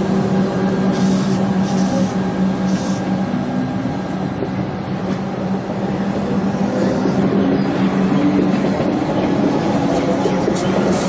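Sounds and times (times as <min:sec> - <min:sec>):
electric train passing: 0:00.0 - 0:11.0
wheels rumbling on rails: 0:00.0 - 0:11.0.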